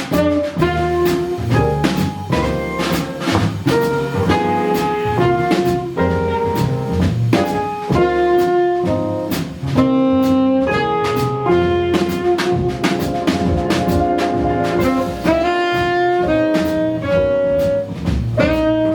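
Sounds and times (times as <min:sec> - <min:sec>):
double bass: 0:00.0 - 0:18.9
drum kit with cymbals: 0:00.0 - 0:18.9
saxophone melody: 0:00.1 - 0:06.9, 0:07.8 - 0:09.2, 0:09.8 - 0:18.9.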